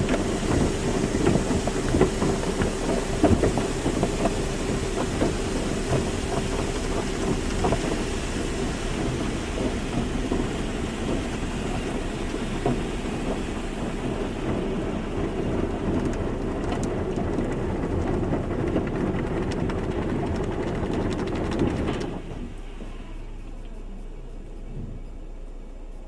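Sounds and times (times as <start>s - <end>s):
car wash spraying water and machinery: 0.0s - 26.0s.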